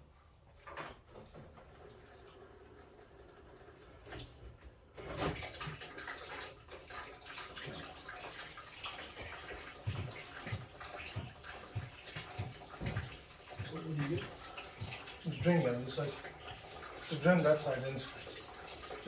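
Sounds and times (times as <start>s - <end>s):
water running and splashing: 0.6s - 19.0s.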